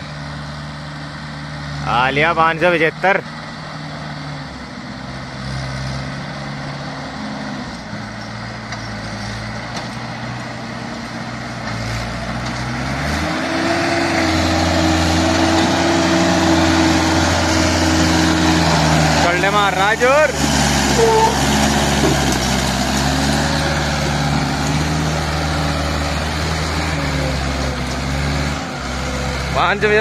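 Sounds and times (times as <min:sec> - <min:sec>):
tractor diesel engine: 0:00.0 - 0:30.0.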